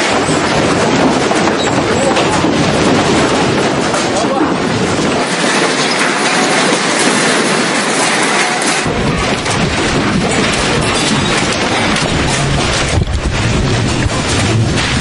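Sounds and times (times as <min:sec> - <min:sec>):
debris grinding and crackling: 0:00.0 - 0:15.0
deep rumble: 0:00.0 - 0:15.0
floodwater roaring: 0:00.0 - 0:15.0.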